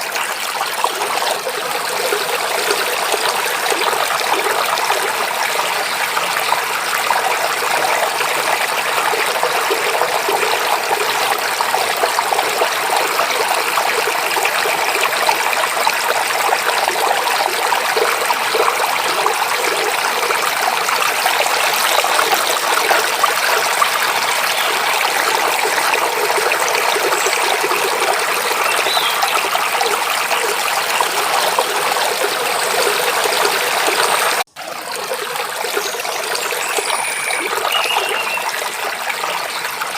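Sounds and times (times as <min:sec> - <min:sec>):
forest stream babbling: 0:00.0 - 0:39.9.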